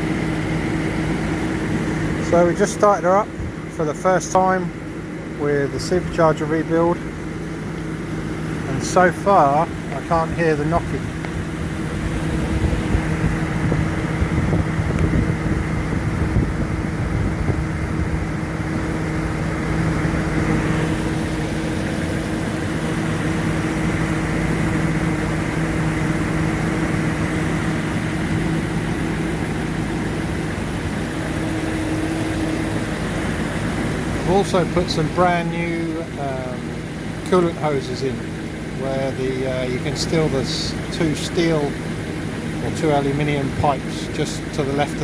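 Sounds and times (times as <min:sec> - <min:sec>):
supercharged engine idling: 0:00.0 - 0:45.0.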